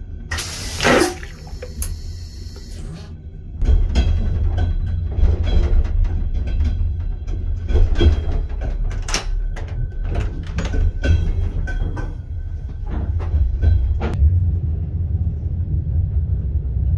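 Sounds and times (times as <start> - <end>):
train carriage rumble: 0.0 - 16.9.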